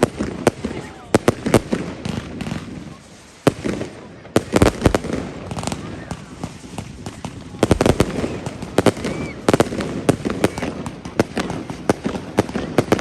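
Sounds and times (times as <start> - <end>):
faint whistling rocket: 0.0 - 13.0
fireworks bangs and crackles: 0.0 - 13.0.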